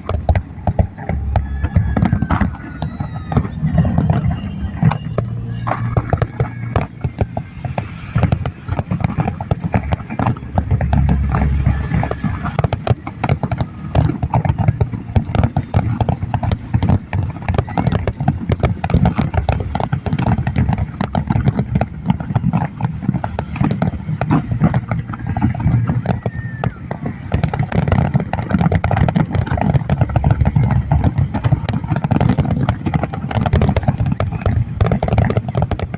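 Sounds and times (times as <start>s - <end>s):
deep low rumble: 0.0s - 35.9s
fireworks bangs and crackles: 0.0s - 35.9s.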